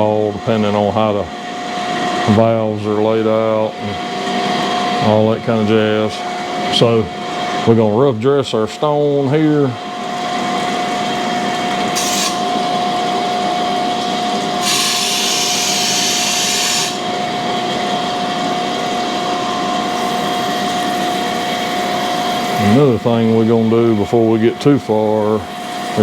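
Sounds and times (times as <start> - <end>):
grinding wheel whine: 0.0 - 26.0.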